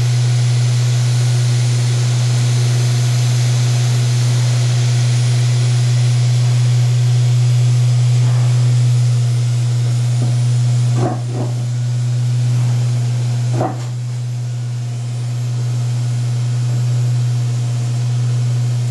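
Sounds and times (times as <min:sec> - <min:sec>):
milling machine spindle humming: 0:00.0 - 0:18.9.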